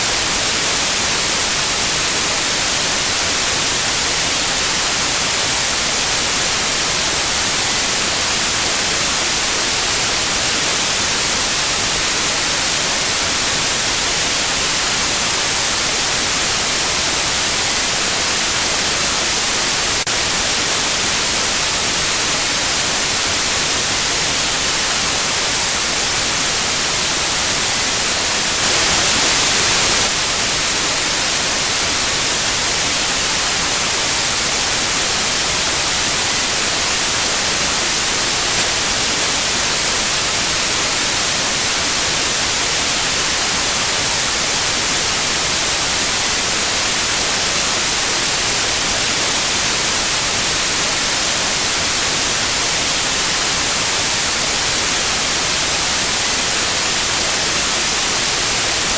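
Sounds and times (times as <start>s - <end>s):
high-pitched pure tone: 0.0s - 58.9s
white noise hissing: 0.0s - 58.9s.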